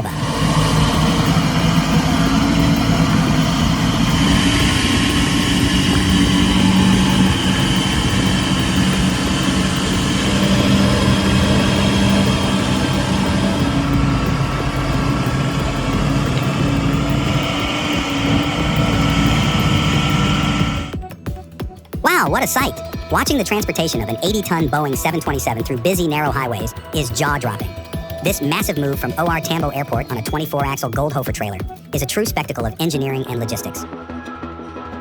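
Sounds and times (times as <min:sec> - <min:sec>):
truck diesel engine droning: 0:00.0 - 0:21.4, 0:22.0 - 0:33.8.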